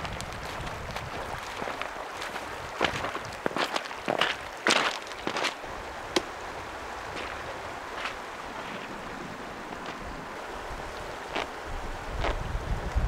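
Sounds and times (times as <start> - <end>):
shallow stream flowing: 0.0 - 13.0.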